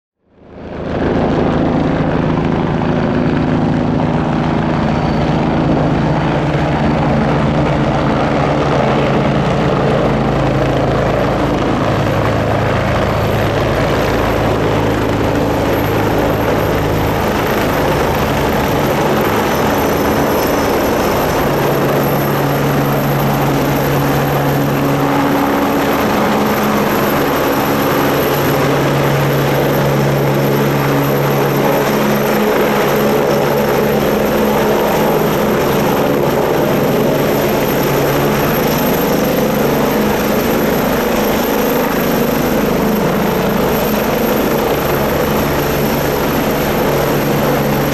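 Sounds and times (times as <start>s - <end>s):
helicopter rotor: 0.2s - 47.9s
high turbine whine: 0.3s - 47.9s.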